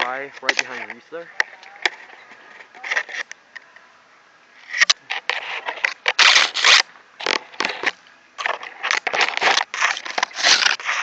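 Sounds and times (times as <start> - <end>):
brush rustling and scraping: 0.0 - 3.3, 4.6 - 11.0.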